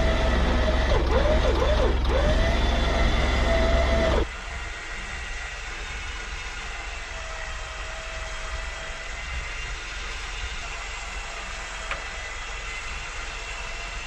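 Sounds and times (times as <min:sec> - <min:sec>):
electric winch motor whining: 0:00.0 - 0:14.0.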